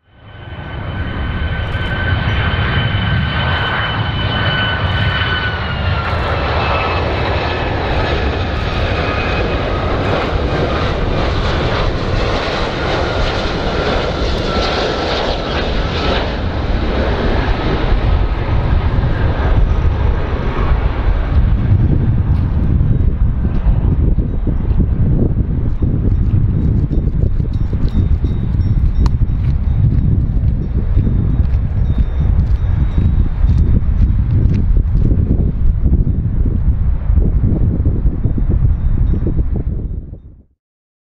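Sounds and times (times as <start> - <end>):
jet airliner engines roaring: 0.0 - 40.2.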